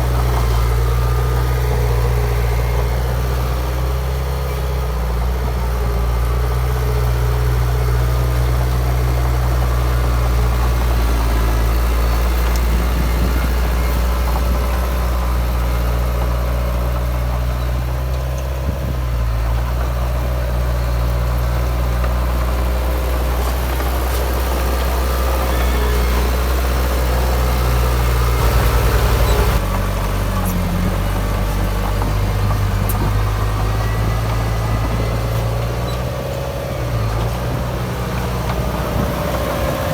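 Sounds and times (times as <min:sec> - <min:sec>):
construction machine diesel engine: 0:00.0 - 0:39.9.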